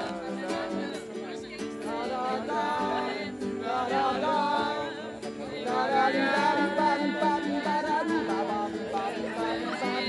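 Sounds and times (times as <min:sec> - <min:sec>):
guitar accompaniment: 0:00.0 - 0:10.0
people singing together: 0:00.0 - 0:10.0.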